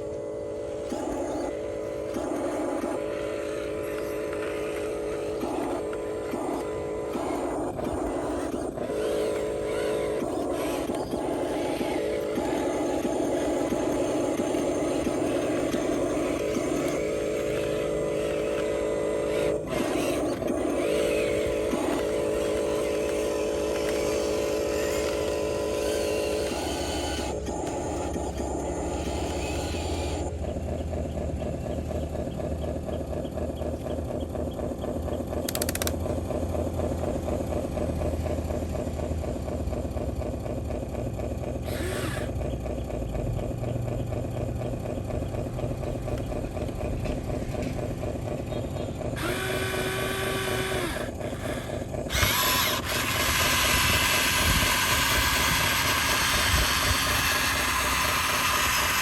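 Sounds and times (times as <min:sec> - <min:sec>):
higher motor whine: 0:00.0 - 0:59.0
small electric motors whirring: 0:00.0 - 0:59.0.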